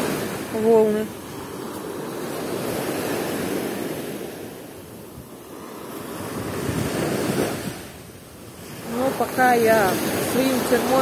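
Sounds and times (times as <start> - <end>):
waves breaking on sandy shore: 0.0 - 11.0
wind buffeting microphone: 0.0 - 11.0.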